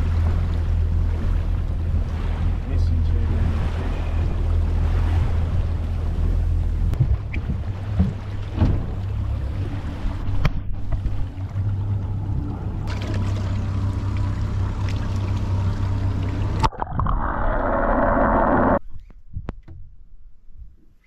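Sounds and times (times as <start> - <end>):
boat engine running: 0.0 - 18.8
water and wind noise: 0.0 - 21.0.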